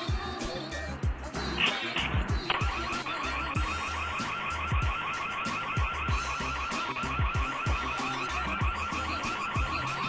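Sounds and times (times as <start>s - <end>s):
hip-hop beat: 0.0s - 10.0s
warbling high tone: 1.6s - 10.0s.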